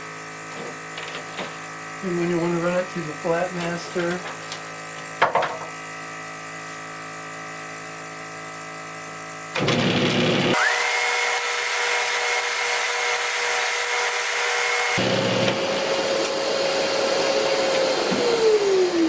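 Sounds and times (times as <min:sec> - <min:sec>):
drum sander running: 0:00.0 - 0:19.0.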